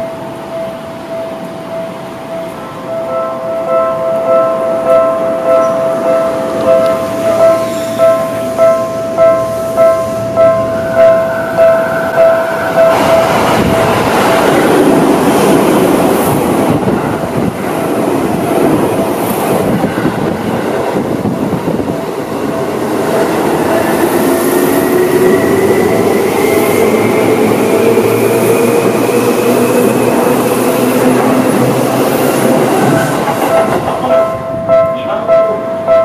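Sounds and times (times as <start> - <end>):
train wheels on rails: 0.0 - 36.0.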